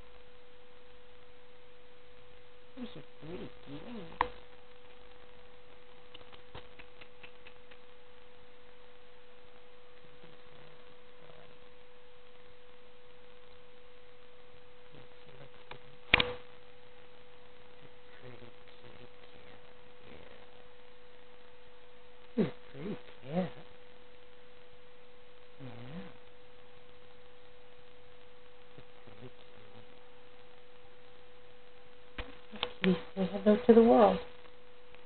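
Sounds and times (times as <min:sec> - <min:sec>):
steady electronic hum: 0:00.0 - 0:35.0.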